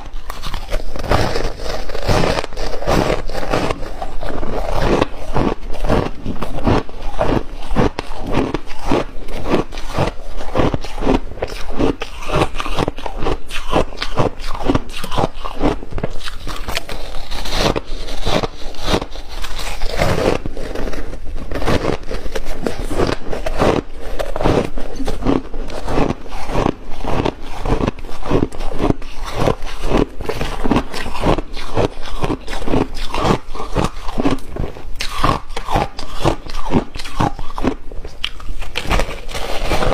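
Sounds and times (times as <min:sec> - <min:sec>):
crunching of ice being chewed: 0:00.0 - 0:39.9.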